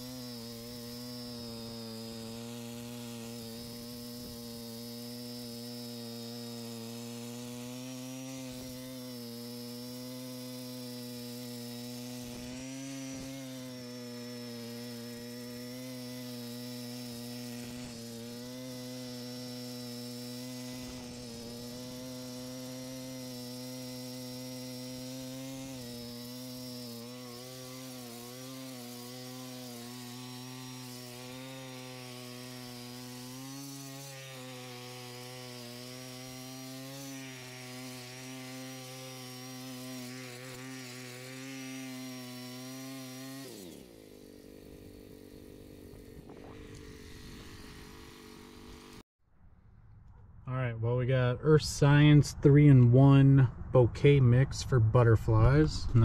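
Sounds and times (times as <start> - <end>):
mini tiller engine running: 0.0 - 49.0.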